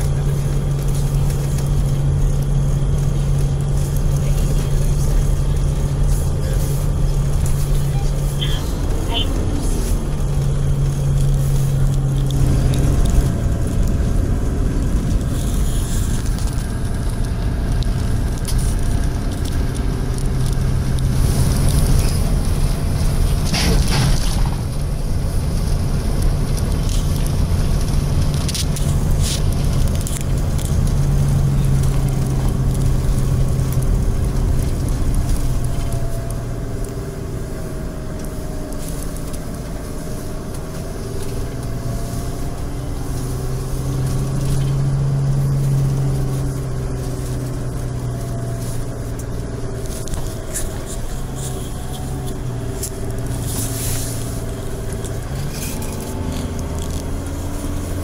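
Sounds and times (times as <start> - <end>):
minibus engine hum: 0.0 - 58.0
road noise: 0.0 - 58.0.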